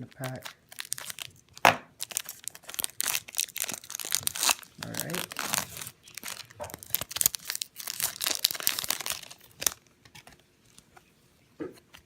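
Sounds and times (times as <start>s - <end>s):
card pack wrapper crinkling and tearing: 0.0s - 10.3s.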